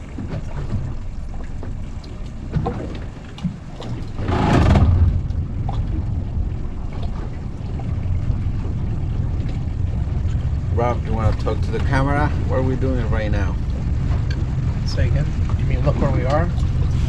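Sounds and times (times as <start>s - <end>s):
boat motor rumble: 0.0s - 17.0s
wind on microphone: 2.3s - 17.0s.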